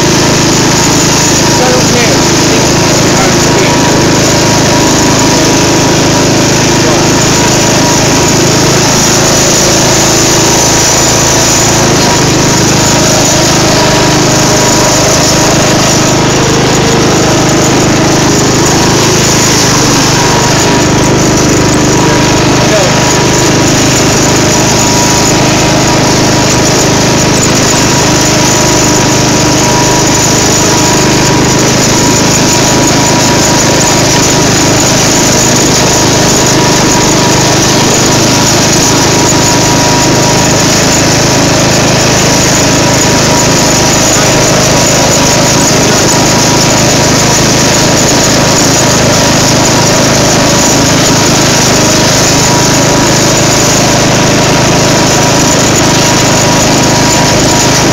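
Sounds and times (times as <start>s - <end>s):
lawn tractor engine running: 0.0s - 57.9s.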